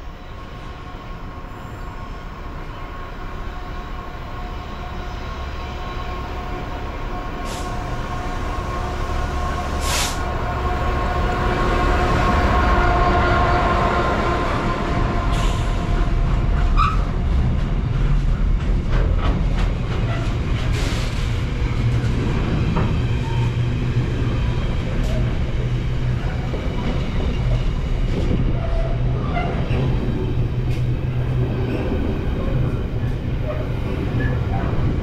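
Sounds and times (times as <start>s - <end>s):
low locomotive engine drone: 0.0s - 35.0s
rail noise: 0.0s - 35.0s.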